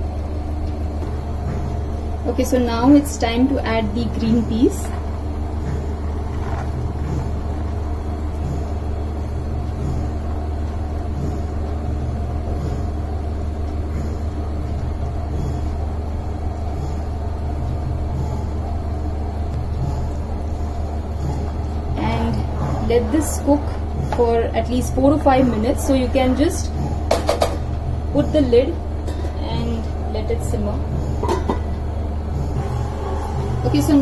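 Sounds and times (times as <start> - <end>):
motor humming: 0.0 - 34.0
steady tones over deep drone: 0.0 - 34.0.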